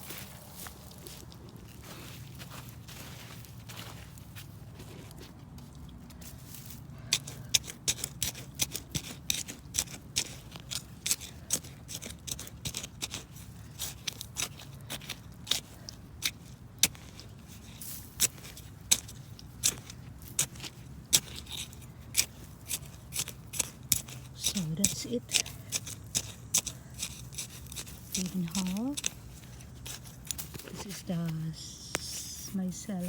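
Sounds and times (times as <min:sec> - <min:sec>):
hands scraping through soil: 0:06.1 - 0:33.0.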